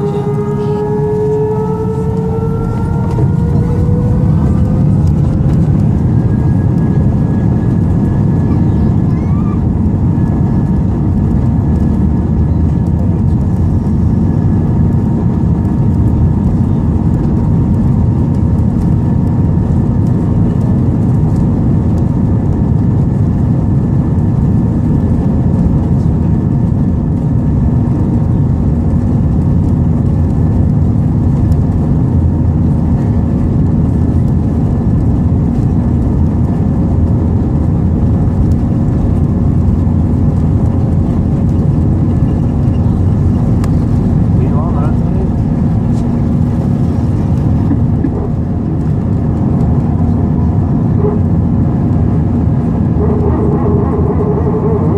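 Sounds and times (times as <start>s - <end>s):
jet engines rumbling in cabin: 0.0s - 54.9s.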